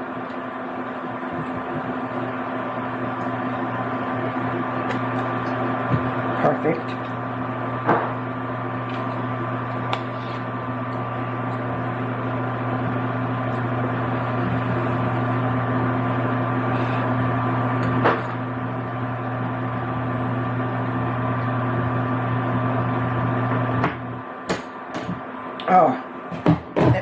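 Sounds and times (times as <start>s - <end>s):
appliance motor humming: 0.0s - 27.0s.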